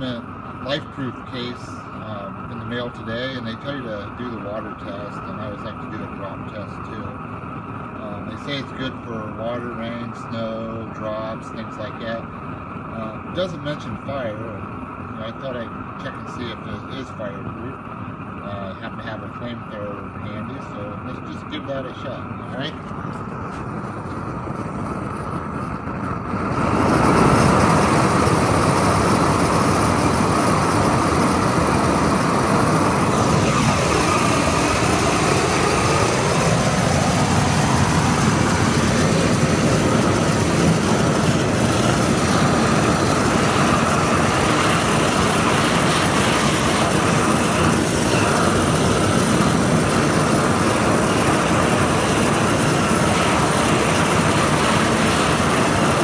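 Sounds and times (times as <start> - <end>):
propane torch roaring: 0.0 - 56.0.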